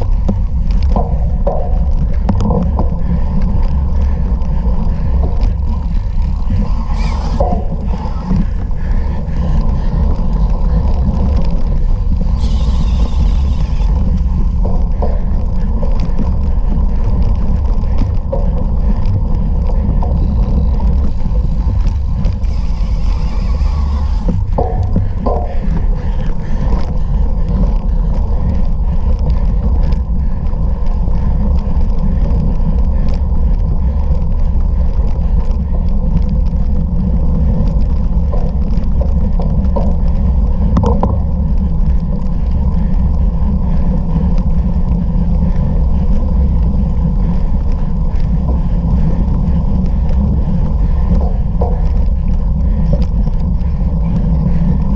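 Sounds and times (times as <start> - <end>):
bicycle riding noise: 0.0 - 54.9
wind rumble: 0.0 - 54.9.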